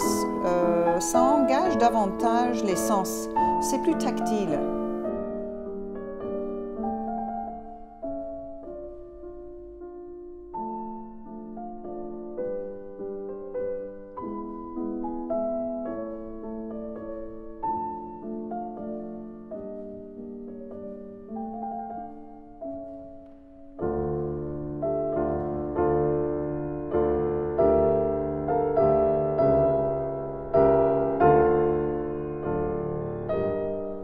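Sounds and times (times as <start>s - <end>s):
low piano bass notes: 0.0s - 34.0s
slow piano melody: 0.0s - 34.0s.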